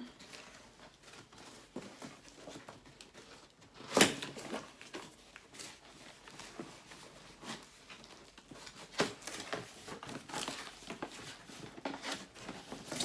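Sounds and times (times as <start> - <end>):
packaging rustling: 0.2 - 13.0.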